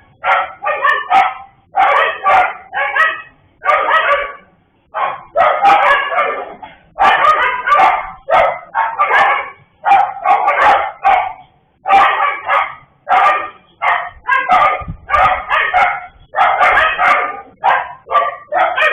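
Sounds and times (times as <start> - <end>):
dogs barking: 0.0 - 18.9.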